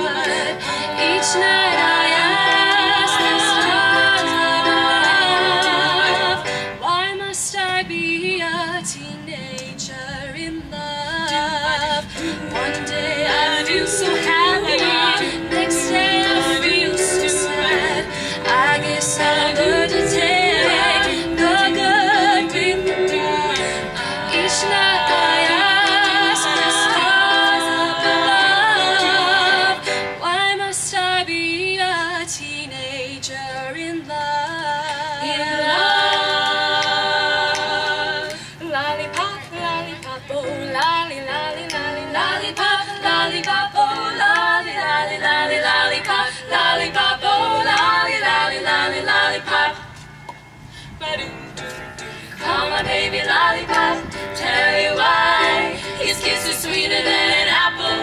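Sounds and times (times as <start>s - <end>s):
female vocal group singing a cappella: 0.0s - 50.2s, 51.0s - 58.0s.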